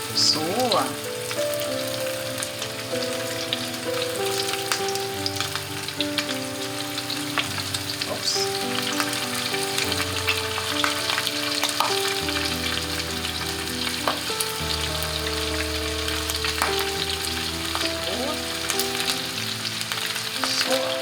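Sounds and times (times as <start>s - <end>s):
chicken sizzling in oil: 0.0s - 21.0s
oil crackling and popping: 0.0s - 21.0s
soft melody: 0.0s - 21.0s.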